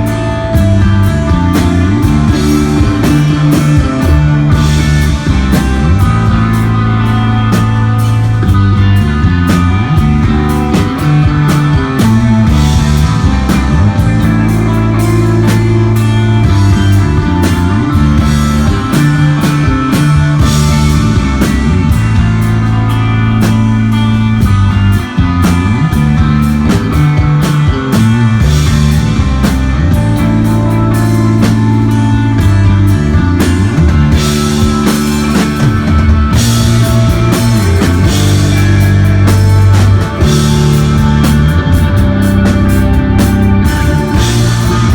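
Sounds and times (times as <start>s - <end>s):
rock band playing live: 0.0s - 44.9s.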